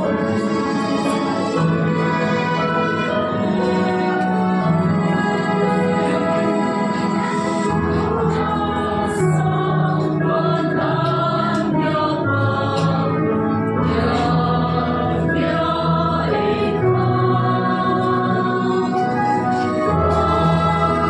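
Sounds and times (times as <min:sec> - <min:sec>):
women's choir singing a hymn: 0:00.0 - 0:21.0.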